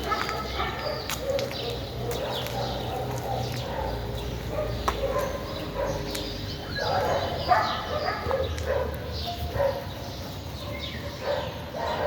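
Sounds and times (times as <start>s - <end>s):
dog barking: 0.0s - 6.1s, 6.7s - 9.9s, 10.6s - 12.0s.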